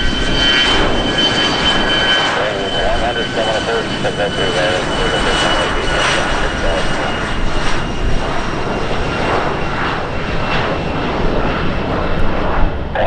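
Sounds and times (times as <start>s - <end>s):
airplane engine: 0.0s - 13.0s.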